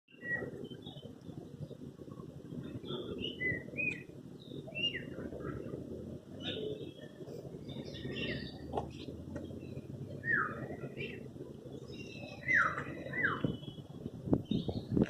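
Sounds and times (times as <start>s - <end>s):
birds chirping and whistling: 0.1s - 1.0s, 2.8s - 5.6s, 6.4s - 15.0s
low background rumble: 0.2s - 15.0s.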